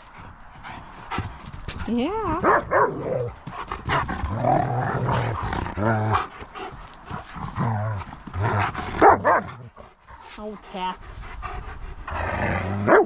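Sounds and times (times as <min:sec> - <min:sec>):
dogs growling: 0:00.1 - 0:10.3, 0:11.2 - 0:13.0.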